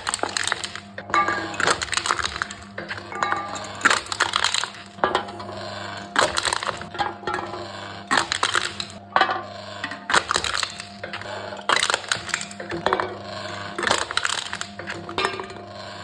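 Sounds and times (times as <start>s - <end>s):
cans crushed by machine: 0.0s - 16.0s
steady low hum: 0.0s - 16.0s.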